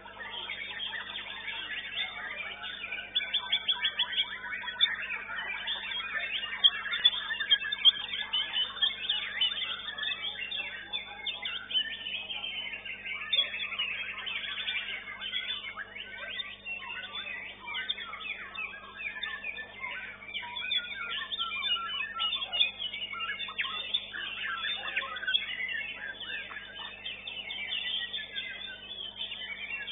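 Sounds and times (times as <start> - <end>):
songbirds chirping and trilling: 0.0 - 29.9.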